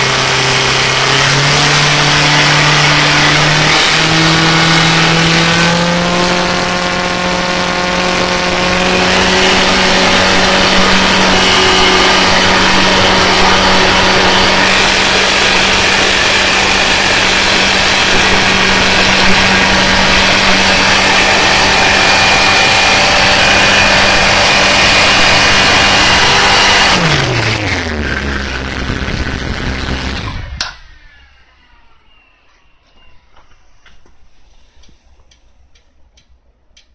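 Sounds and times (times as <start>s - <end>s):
motorcycle engine running: 0.0s - 30.6s.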